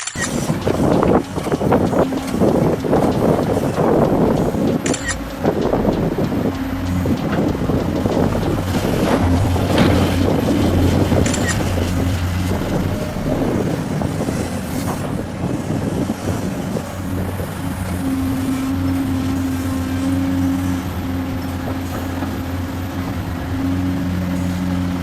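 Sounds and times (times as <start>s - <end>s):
heavy machinery engine drone: 0.0s - 25.0s.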